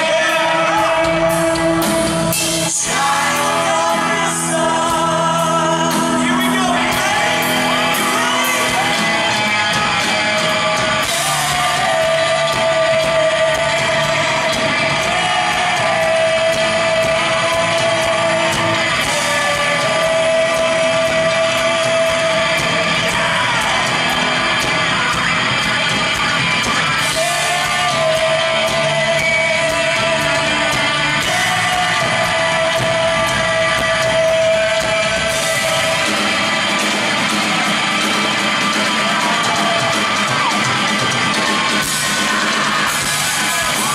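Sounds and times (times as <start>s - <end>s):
live rock band playing: 0.0s - 43.9s
singer holding long notes: 0.0s - 43.9s.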